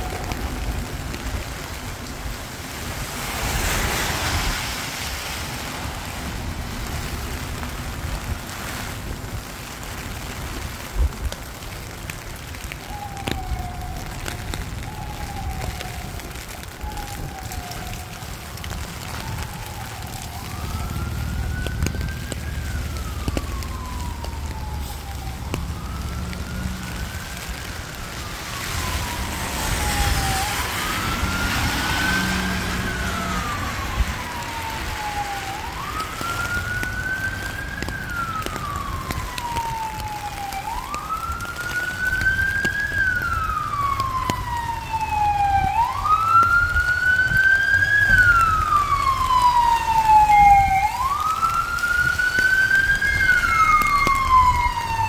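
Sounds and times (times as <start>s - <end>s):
siren wailing: 0.0s - 8.3s, 11.0s - 55.0s
rain: 0.0s - 55.0s
wet-street traffic: 0.0s - 55.0s.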